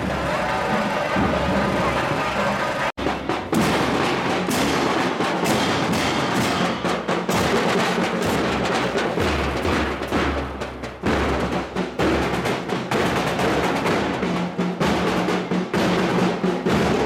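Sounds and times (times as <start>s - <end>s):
marching band drums: 0.0s - 17.0s.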